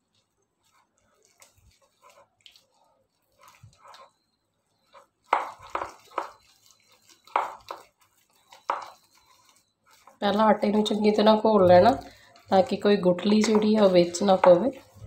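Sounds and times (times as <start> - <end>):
wet squelching: 0.0 - 15.0
spoon scraping bowl: 0.6 - 15.0.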